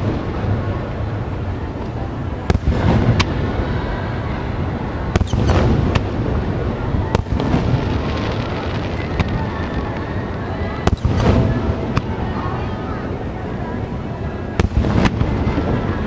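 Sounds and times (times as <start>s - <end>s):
rumble and crackle of fireworks: 0.0s - 16.0s.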